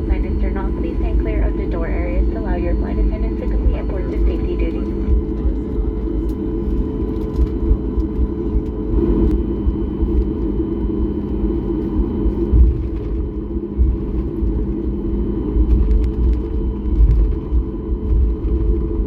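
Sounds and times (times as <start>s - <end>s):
faint steady tones: 0.0s - 18.2s
airliner cabin rumble: 0.0s - 19.0s.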